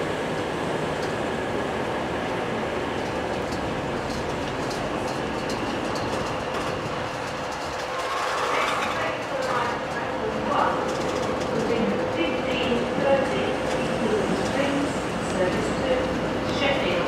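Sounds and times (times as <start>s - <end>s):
diesel train engine drone: 0.0s - 17.0s.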